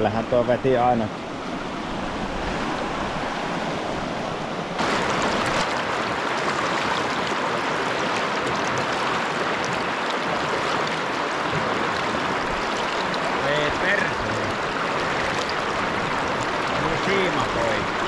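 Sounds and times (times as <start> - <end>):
river rapid rushing: 0.0 - 18.0.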